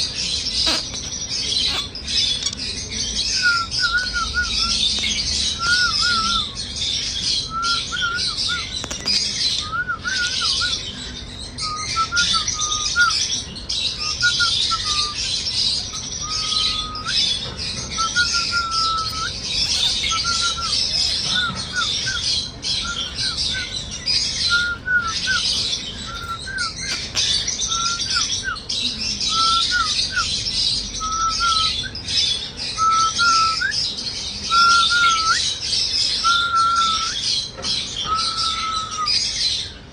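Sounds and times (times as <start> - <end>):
birds chirping: 0.0 - 39.9
whistled bird notes: 0.0 - 39.9.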